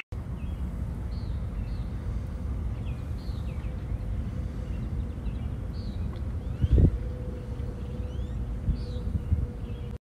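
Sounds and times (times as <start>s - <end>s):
wind rumble on microphone: 0.2s - 10.0s
bird chirps: 0.4s - 2.0s, 2.7s - 10.0s.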